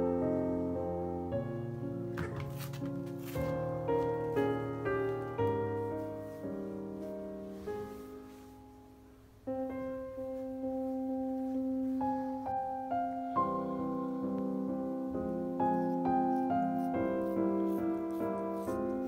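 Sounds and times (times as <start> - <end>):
gentle solo piano: 0.0 - 19.0.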